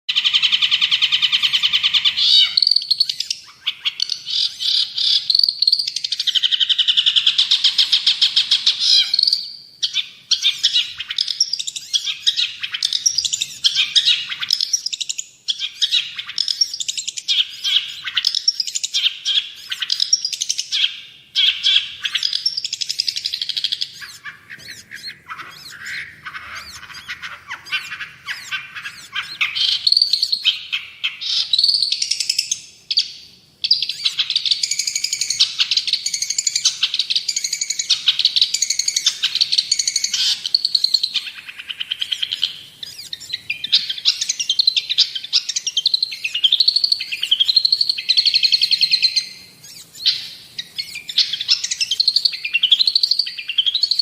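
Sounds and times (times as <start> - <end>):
bird chattering and trilling: 0.1 - 54.0.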